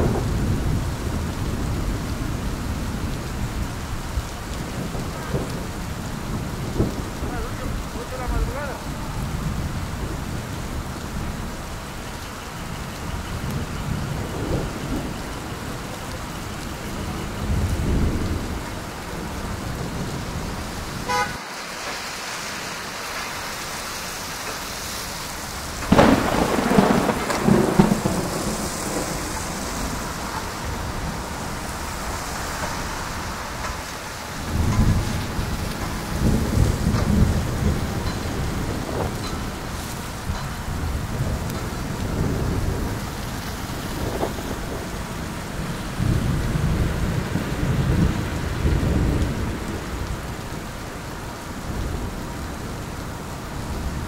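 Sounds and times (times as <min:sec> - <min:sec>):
low rumble of traffic: 0:00.0 - 0:54.0.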